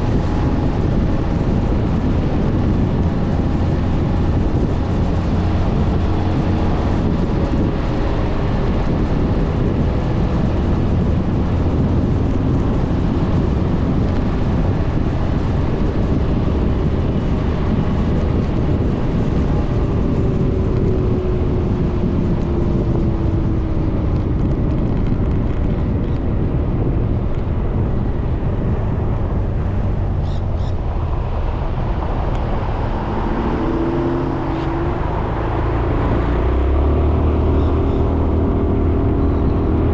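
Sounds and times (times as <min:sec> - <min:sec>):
wind rush and road noise: 0:00.0 - 0:39.9.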